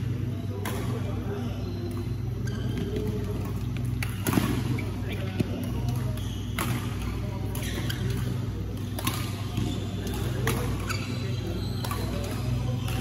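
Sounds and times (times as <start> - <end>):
rackets striking shuttlecock: 1.8 - 13.0.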